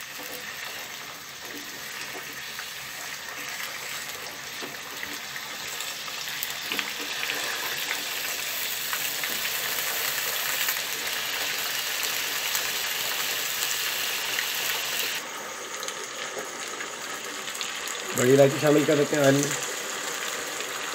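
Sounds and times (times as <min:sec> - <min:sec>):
potatoes sizzling in oil: 0:00.0 - 0:20.9.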